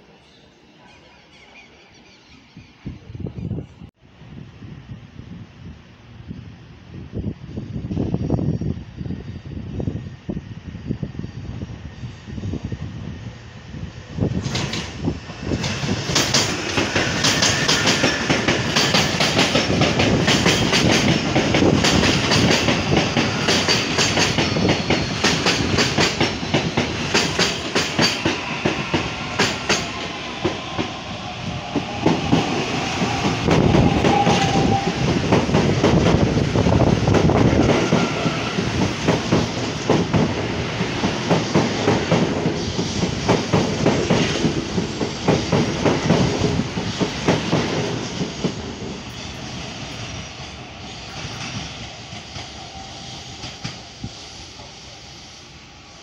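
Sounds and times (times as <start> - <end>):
train wheels on rails: 6.2 - 56.0.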